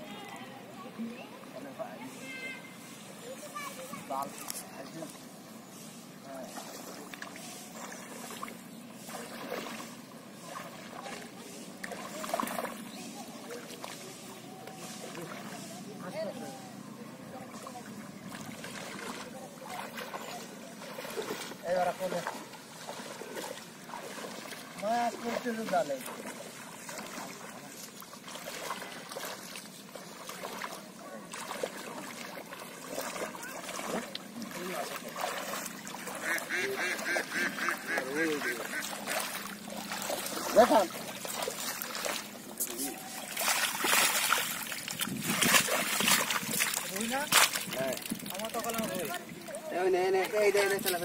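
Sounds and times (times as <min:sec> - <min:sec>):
faint voices: 0:00.0 - 0:51.0
water sloshing and splashing: 0:02.2 - 0:16.4, 0:17.3 - 0:51.0.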